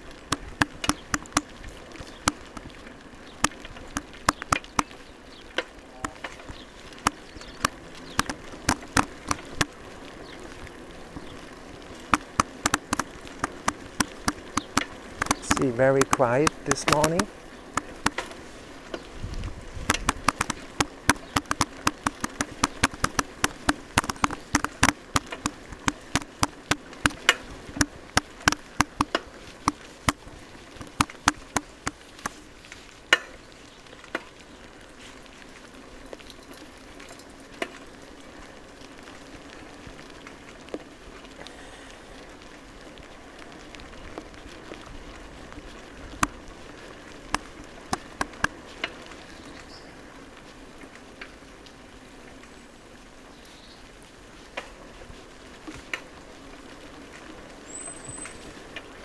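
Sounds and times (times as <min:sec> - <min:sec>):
raindrops ticking: 0:00.0 - 0:59.0.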